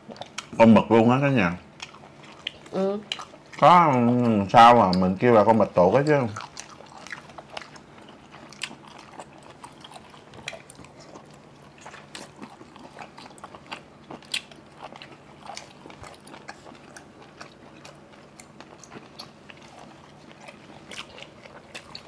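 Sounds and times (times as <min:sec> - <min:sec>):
chewing crunchy food: 0:00.0 - 0:00.9, 0:01.5 - 0:22.0.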